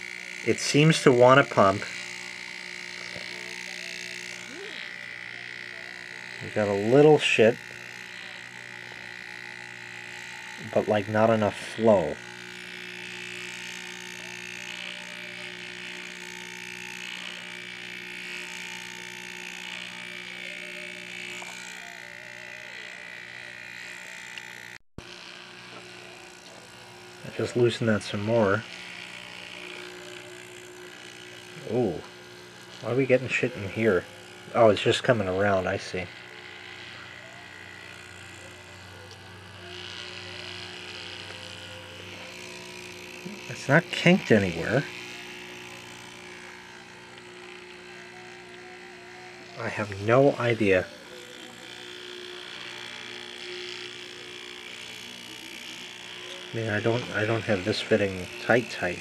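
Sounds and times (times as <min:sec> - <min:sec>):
electric pump humming: 0:00.0 - 0:59.0.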